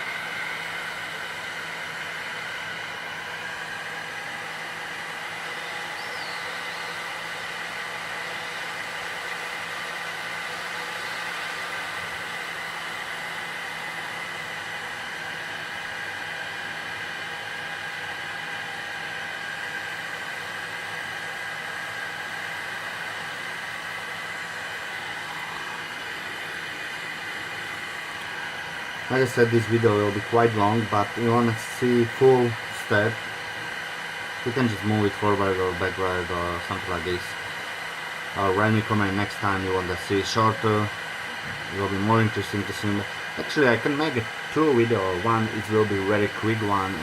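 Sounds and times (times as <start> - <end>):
heat gun blowing: 0.0 - 47.0.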